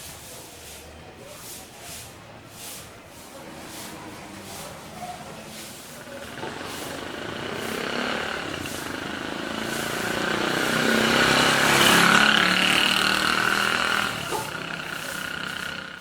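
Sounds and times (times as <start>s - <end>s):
motor vehicle passing by: 3.2s - 16.0s.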